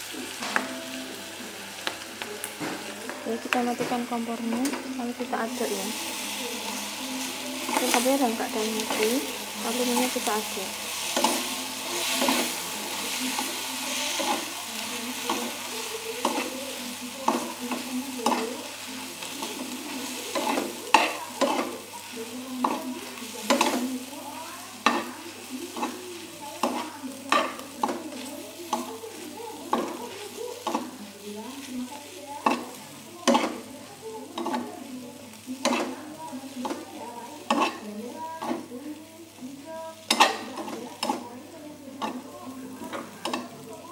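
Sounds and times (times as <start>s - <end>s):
light sizzle from pan: 0.0s - 43.9s
spatula scraping frying pan: 3.7s - 38.9s, 39.8s - 43.9s.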